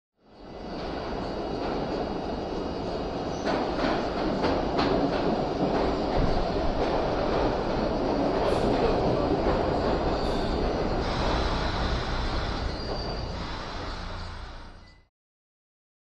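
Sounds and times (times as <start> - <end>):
subway train running past: 0.2 - 15.1.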